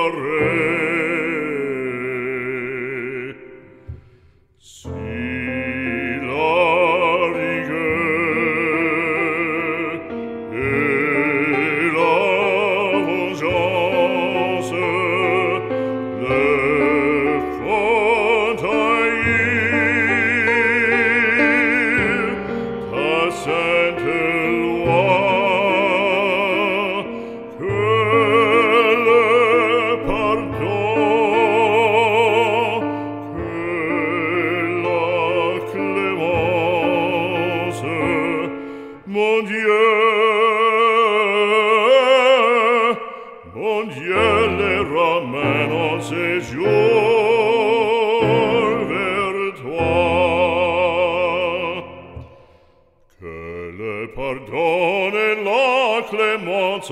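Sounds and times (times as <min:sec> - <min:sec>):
operatic singing: 0:00.0 - 0:56.9.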